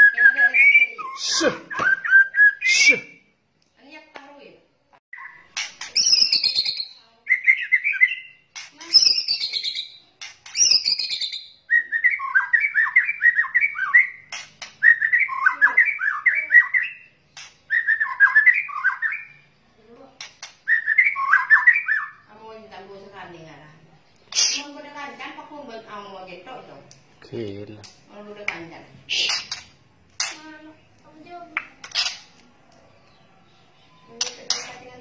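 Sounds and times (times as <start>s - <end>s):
songbird singing: 0.0s - 4.1s, 5.1s - 35.0s.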